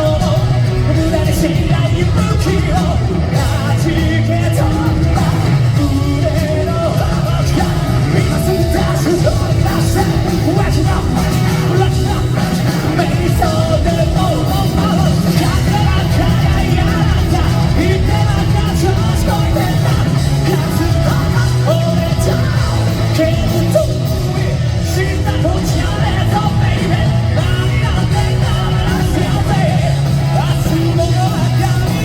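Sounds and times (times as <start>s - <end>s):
live rock band playing: 0.0s - 32.0s
man singing: 0.0s - 32.0s.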